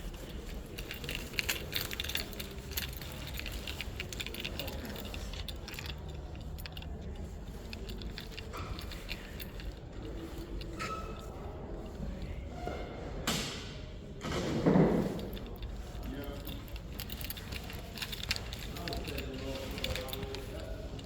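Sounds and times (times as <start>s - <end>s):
small hard objects jangling: 0.0s - 12.4s, 14.7s - 21.0s.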